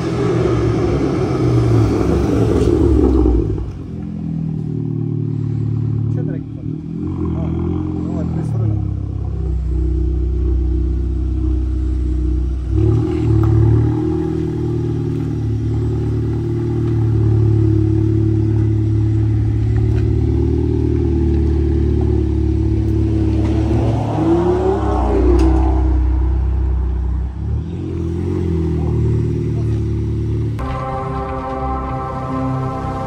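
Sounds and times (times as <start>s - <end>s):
car engine running low revs: 0.0s - 33.0s.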